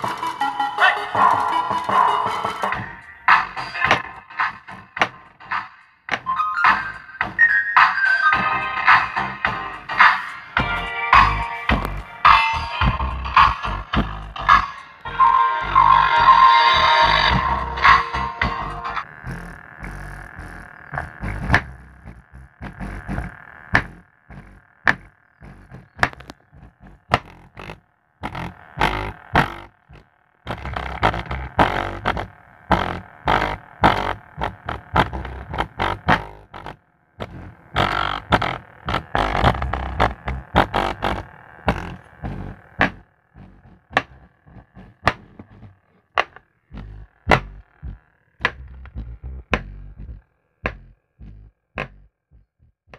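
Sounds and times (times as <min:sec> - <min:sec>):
bass music from subwoofer: 0:00.0 - 0:52.9.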